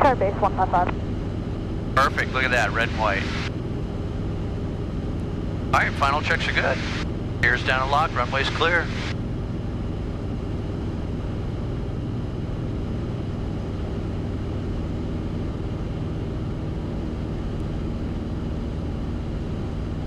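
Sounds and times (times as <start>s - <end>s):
light aircraft engine and propeller: 0.9s - 20.0s.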